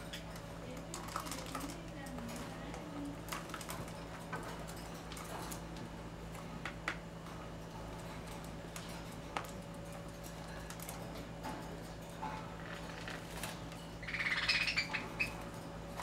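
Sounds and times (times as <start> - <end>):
birds tapping on tub and cage: 0.0 - 16.0
steady low hum: 0.0 - 16.0.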